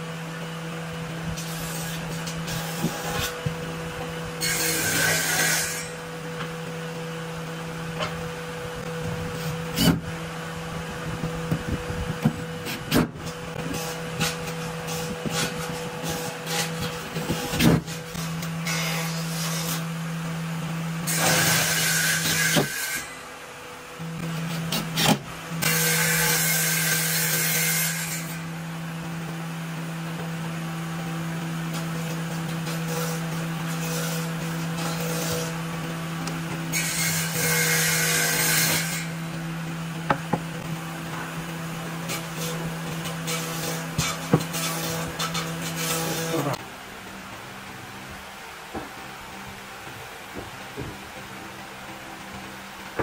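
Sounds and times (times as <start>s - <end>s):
steady low hum: 0.0s - 22.4s, 28.3s - 53.0s.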